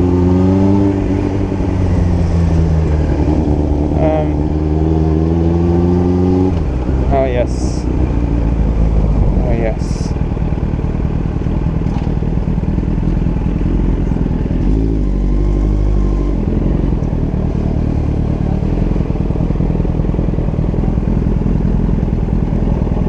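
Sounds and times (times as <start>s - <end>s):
motorcycle engine drone: 0.0s - 23.0s.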